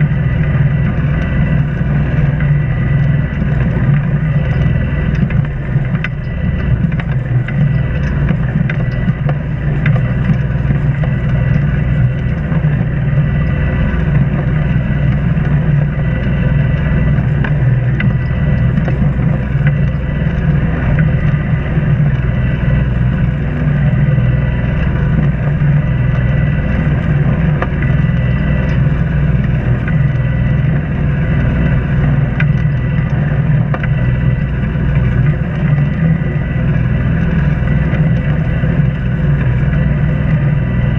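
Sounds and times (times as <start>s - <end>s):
boat engine running steadily: 0.0s - 40.9s.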